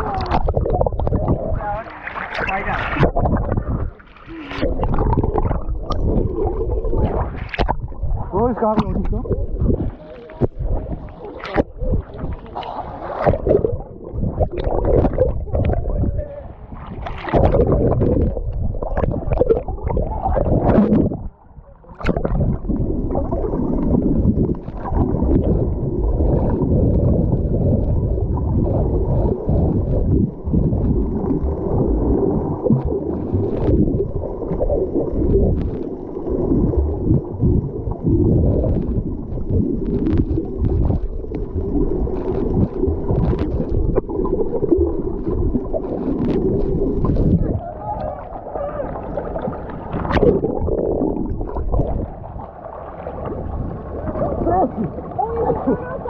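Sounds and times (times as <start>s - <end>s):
muffled underwater water sloshing: 0.0s - 56.0s.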